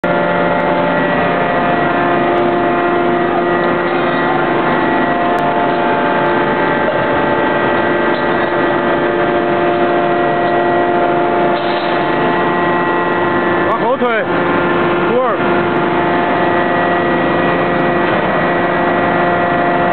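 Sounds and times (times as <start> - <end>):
hydraulic system humming: 0.0 - 19.9.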